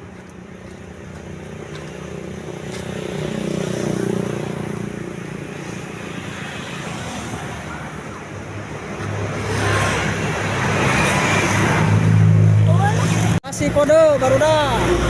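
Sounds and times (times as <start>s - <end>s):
vehicle passing by: 0.4s - 13.4s.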